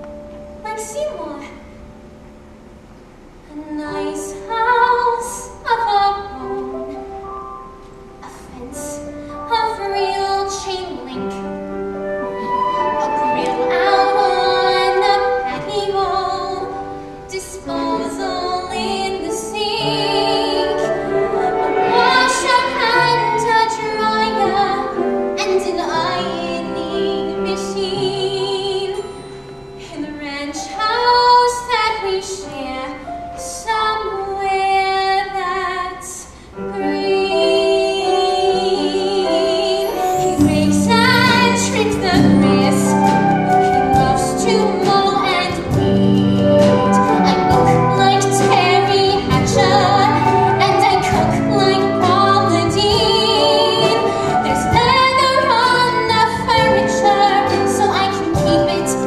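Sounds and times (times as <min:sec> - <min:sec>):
woman singing ballad: 0:03.5 - 0:07.0, 0:08.2 - 0:11.6, 0:12.3 - 0:59.0
instrumental accompaniment: 0:06.3 - 0:33.5, 0:36.6 - 0:59.0.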